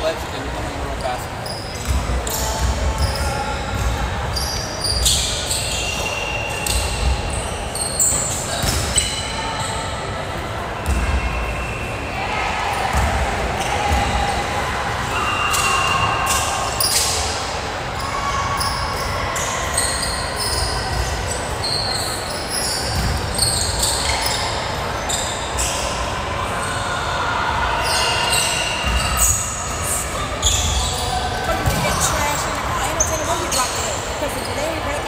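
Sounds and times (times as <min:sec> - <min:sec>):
voices in background: 0:00.0 - 0:35.0.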